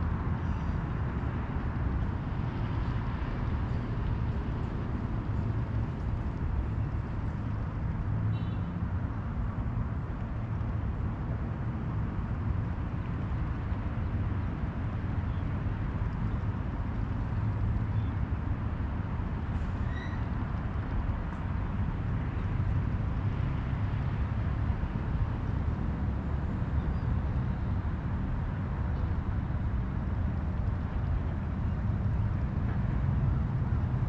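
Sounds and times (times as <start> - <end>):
distant road traffic rumble: 0.0 - 34.0.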